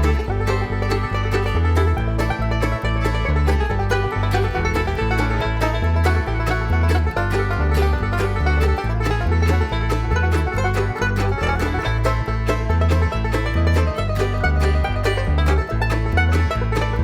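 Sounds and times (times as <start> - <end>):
instrumental music with plucked strings: 0.0 - 17.0.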